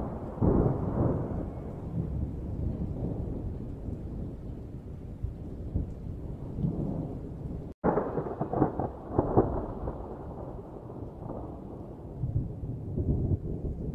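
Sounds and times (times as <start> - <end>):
thunder rumbling and cracking: 0.0 - 13.9.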